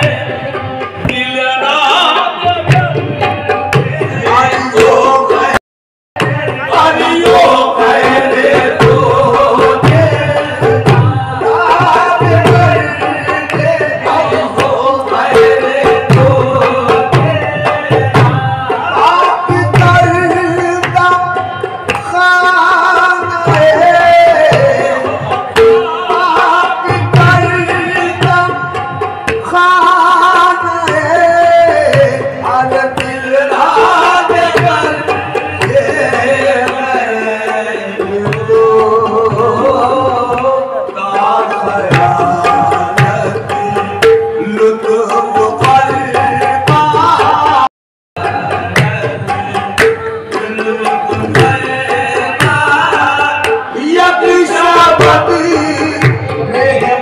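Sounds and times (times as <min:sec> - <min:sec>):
tabla hand-drumming: 0:00.0 - 0:05.6, 0:06.2 - 0:57.0.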